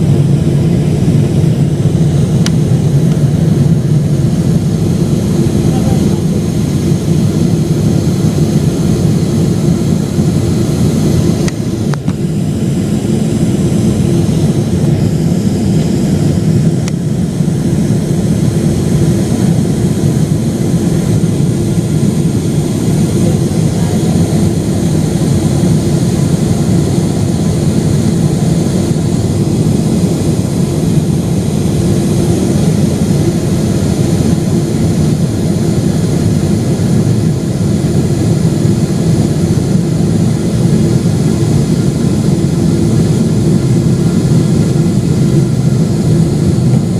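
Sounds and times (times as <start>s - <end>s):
airplane cabin engine rumble: 0.0s - 46.9s
steady cabin hum: 0.0s - 46.9s.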